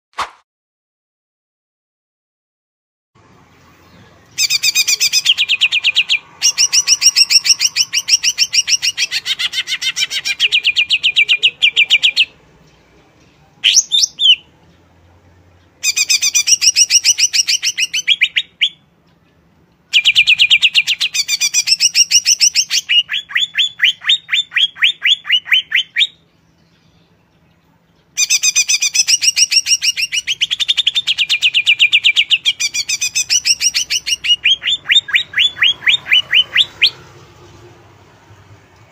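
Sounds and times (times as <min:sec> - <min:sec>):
bird chattering song: 0:03.5 - 0:13.0, 0:13.6 - 0:37.6.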